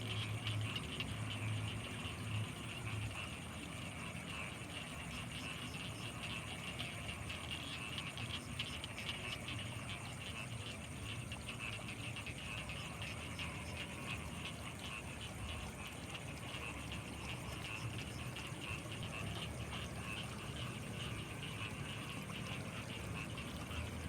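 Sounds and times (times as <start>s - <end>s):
frog chorus: 0.0s - 24.0s
steady high-pitched whine: 0.0s - 24.0s.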